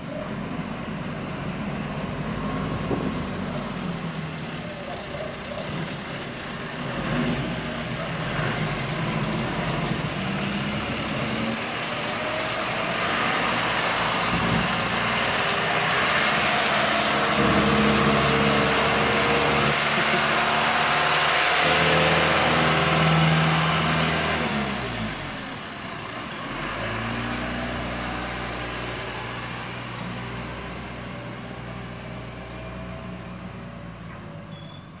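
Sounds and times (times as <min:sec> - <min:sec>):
backhoe diesel engine passing: 0:00.0 - 0:35.0.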